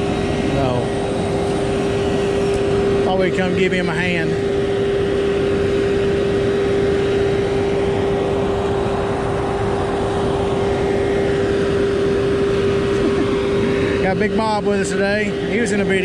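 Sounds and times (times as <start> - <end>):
constant whine: 0.0 - 16.0
truck engine running: 0.0 - 16.0.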